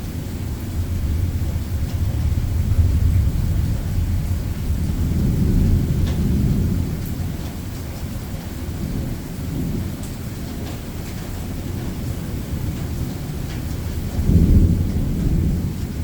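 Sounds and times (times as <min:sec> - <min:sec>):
rain falling: 0:00.0 - 0:16.0
thunder rumbling: 0:00.0 - 0:16.0.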